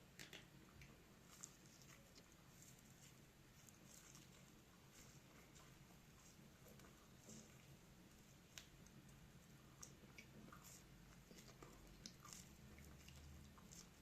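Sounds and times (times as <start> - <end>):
food being chewed: 0.2 - 14.0.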